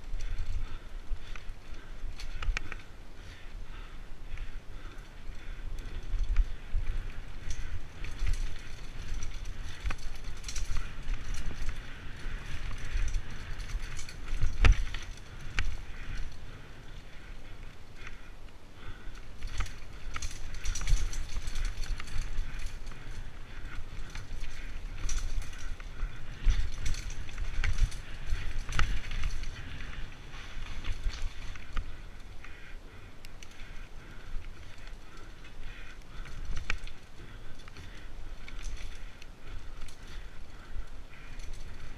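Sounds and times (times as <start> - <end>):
bike frame clicks and rattles: 0.0 - 41.9
bike tyres rumbling on dirt: 0.0 - 41.9.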